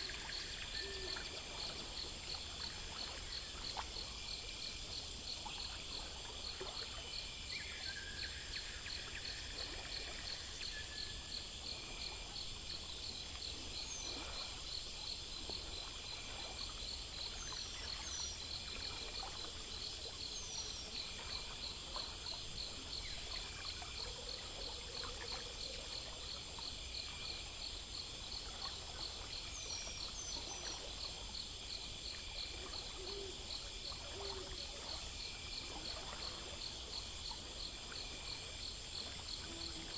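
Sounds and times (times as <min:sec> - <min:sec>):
crickets chirping: 0:00.0 - 0:39.9
insects trilling: 0:00.0 - 0:39.9.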